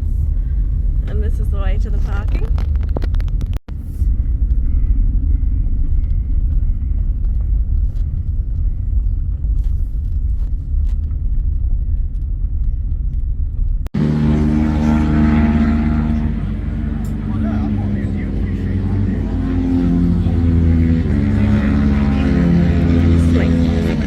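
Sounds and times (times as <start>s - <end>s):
car driving low rumble: 0.0s - 24.0s
pitched engine drone: 0.0s - 24.0s.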